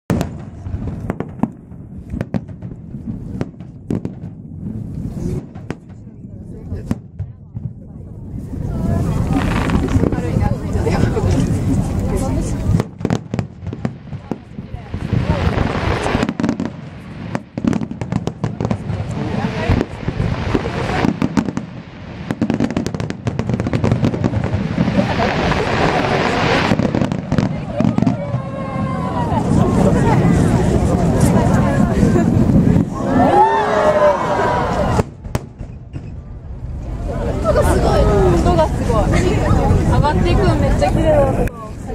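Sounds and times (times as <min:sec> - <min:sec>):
fireworks bursting with sharp bangs: 0:00.1 - 0:34.1, 0:34.7 - 0:41.7.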